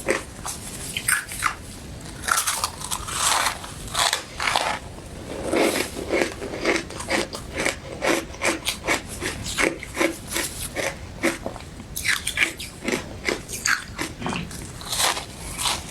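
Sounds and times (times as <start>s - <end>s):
chewing crunchy ice: 0.9s - 4.8s, 5.4s - 15.9s.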